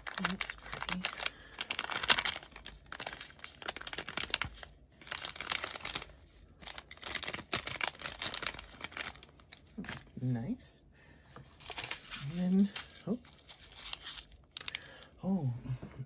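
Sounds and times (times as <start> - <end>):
plastic packaging crinkling: 0.0 - 10.2, 11.6 - 15.0.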